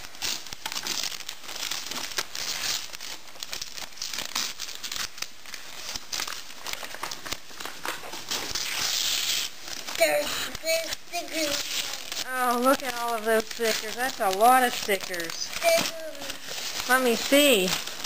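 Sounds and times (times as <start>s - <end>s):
wrapping paper rustling and ripping: 0.0s - 18.0s.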